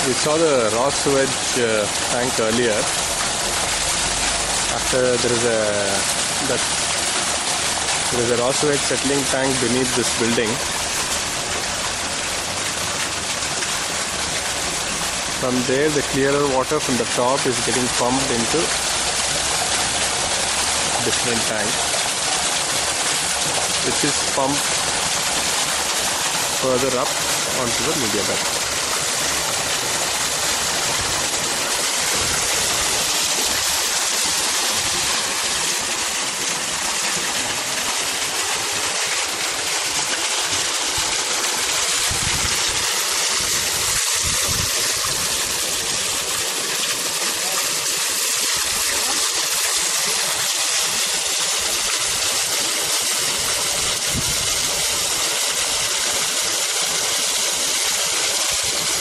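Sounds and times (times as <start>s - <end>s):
flowing water hissing: 0.0s - 59.0s.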